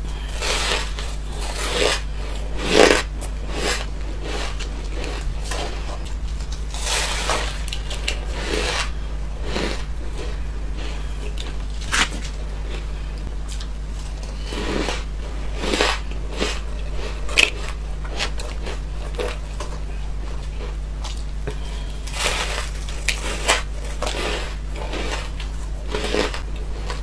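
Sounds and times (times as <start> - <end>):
steady low hum: 0.0 - 27.0
person crunching ice: 0.2 - 19.8, 21.6 - 27.0.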